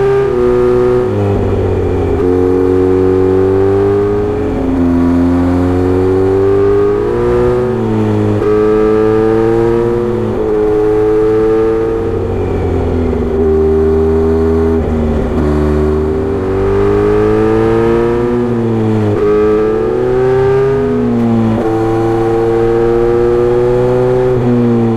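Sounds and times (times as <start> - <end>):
motorcycle exhaust revving: 0.0 - 24.9.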